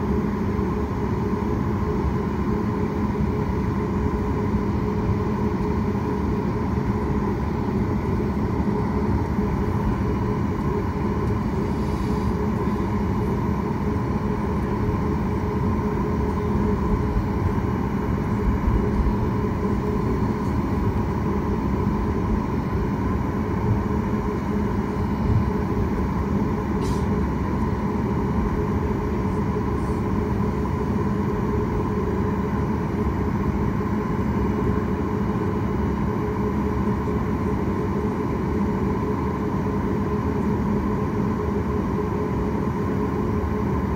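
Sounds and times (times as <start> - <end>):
aircraft cabin engine hum: 0.0 - 43.9.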